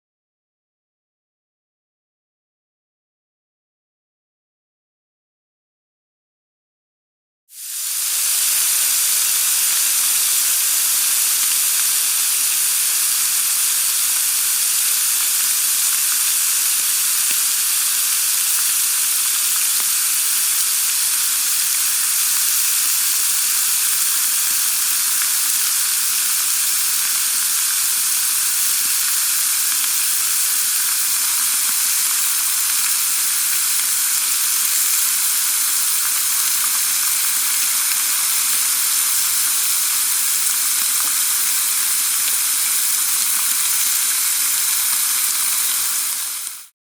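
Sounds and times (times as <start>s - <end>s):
pork sizzling on a grill: 7.5s - 46.7s.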